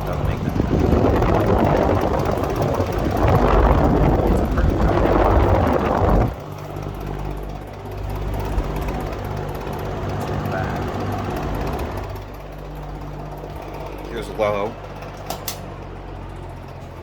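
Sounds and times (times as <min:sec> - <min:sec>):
box fan running: 0:00.0 - 0:17.0
rattle inside fan: 0:00.0 - 0:17.0.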